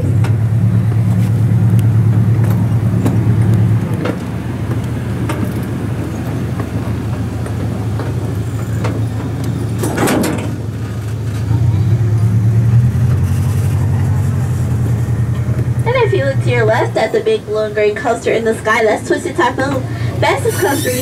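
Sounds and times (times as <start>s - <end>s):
train engine drone: 0.0s - 21.0s.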